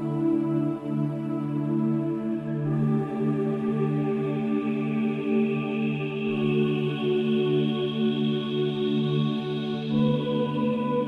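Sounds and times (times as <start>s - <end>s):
slow ambient music: 0.0s - 11.0s.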